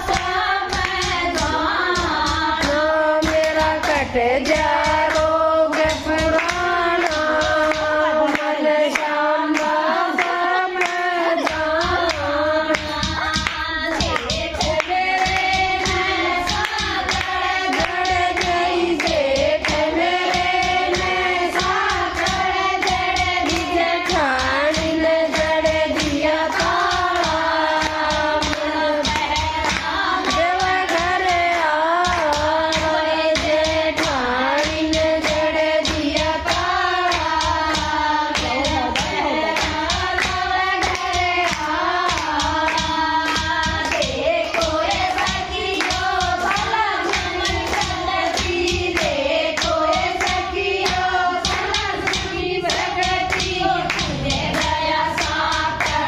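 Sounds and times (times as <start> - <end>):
rhythmic hand claps: 0.0 - 56.0
women singing devotional song: 0.0 - 56.0.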